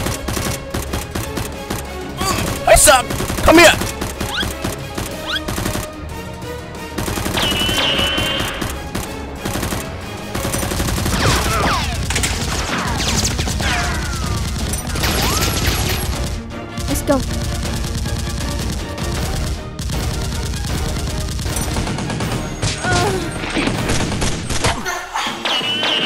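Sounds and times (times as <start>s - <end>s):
rapid gunfire sound effects: 0.0s - 6.0s, 6.8s - 26.0s
action background music: 0.0s - 26.0s.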